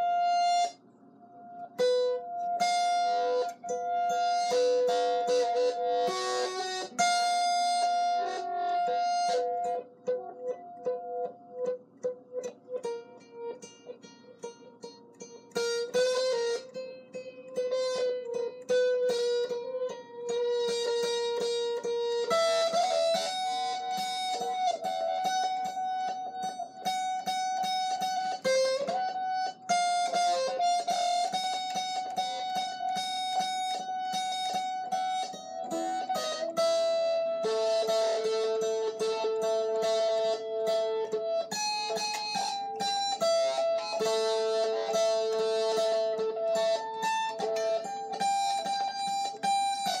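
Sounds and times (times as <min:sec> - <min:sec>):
guitar notes plucked: 0:00.0 - 0:50.0.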